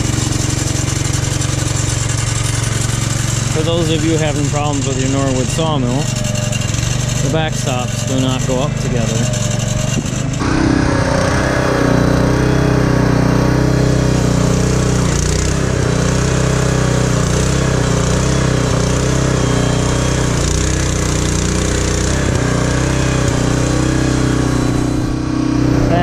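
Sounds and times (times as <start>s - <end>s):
small gasoline engine running: 0.0s - 26.0s.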